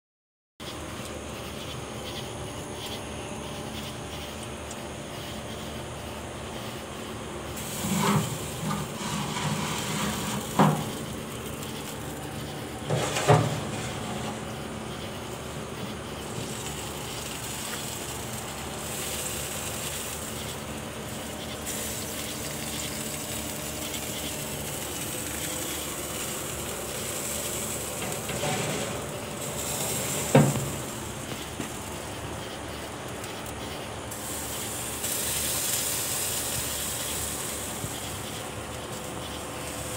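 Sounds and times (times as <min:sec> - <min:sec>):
meat sizzling: 0:07.4 - 0:39.9.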